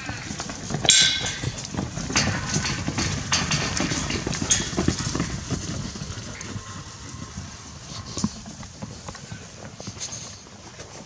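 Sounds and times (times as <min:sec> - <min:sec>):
cattle bumping steel rails: 0:00.0 - 0:11.0
hooves shuffling and thudding: 0:00.0 - 0:11.0.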